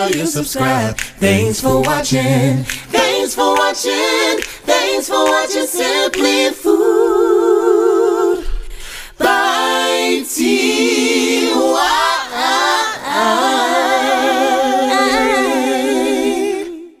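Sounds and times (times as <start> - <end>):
voices singing a cappella: 0.0 - 17.0.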